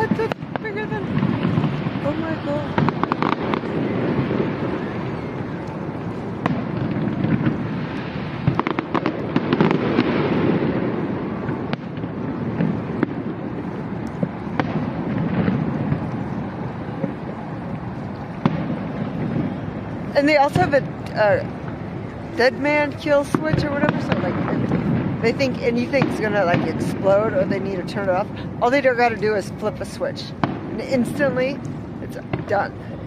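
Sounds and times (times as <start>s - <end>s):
fireworks bangs and crackles: 0.0s - 33.0s
fireworks rumbling: 0.0s - 33.0s.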